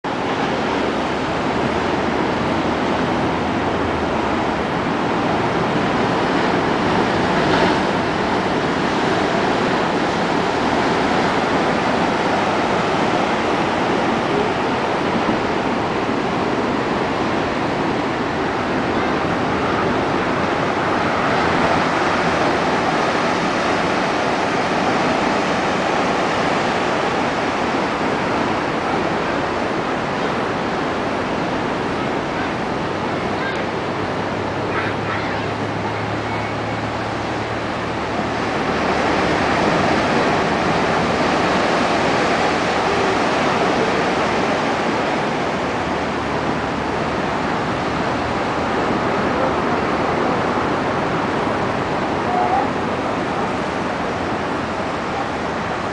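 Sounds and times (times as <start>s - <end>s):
storm surf breaking on beach: 0.0s - 55.9s.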